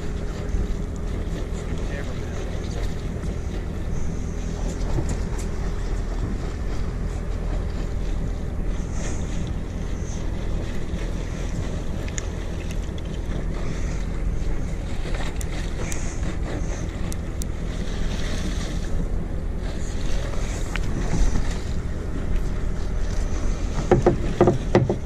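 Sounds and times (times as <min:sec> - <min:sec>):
low even rumble: 0:00.0 - 0:25.0
wind buffeting microphone: 0:00.0 - 0:25.0.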